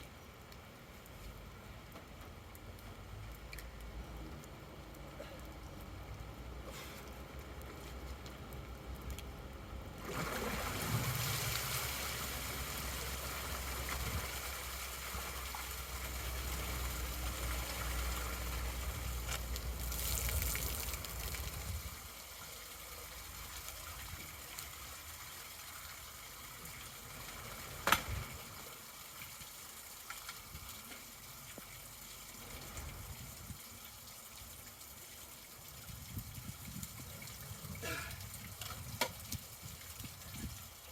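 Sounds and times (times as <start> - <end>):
water gushing down storm drain: 0.0 - 40.9.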